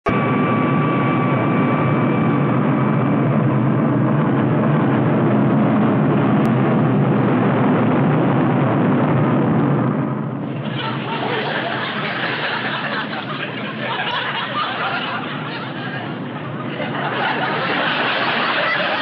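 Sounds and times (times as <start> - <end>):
high turbine whine: 0.1 - 19.0
jet roar: 0.1 - 19.0.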